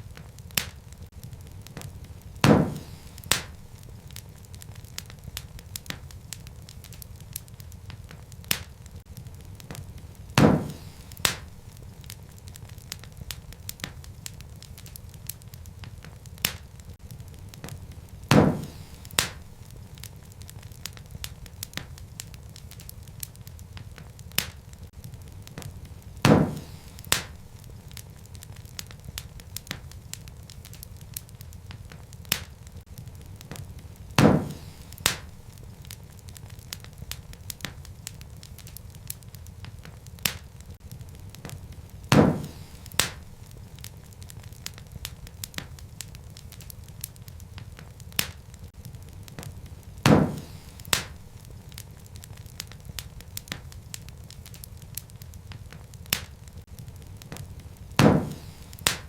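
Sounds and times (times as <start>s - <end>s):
loud pops from fire: 0.0s - 59.0s
wood fire crackling: 0.0s - 59.0s.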